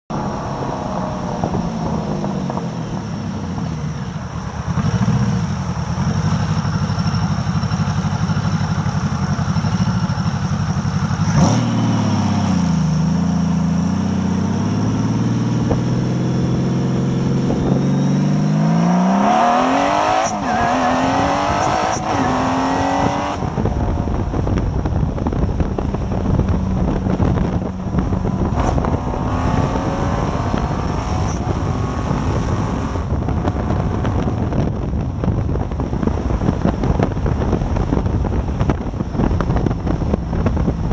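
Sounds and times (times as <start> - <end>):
motorcycle engine accelerating: 0.1 - 40.9
supercharger whine: 0.1 - 40.9
wind noise: 0.1 - 40.9.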